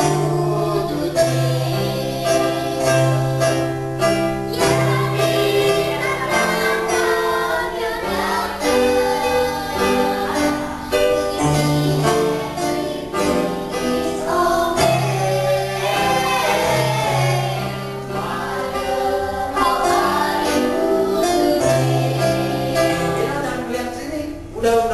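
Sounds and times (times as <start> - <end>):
girls singing together: 0.0 - 23.7
instrumental accompaniment: 0.0 - 24.9.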